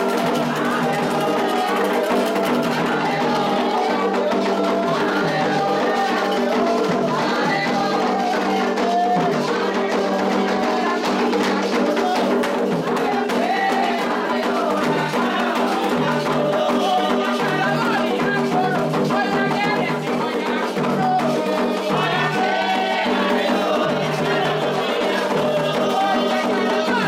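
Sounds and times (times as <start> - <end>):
hand drums and percussion: 0.0 - 27.0
voices singing a chant: 0.0 - 27.0.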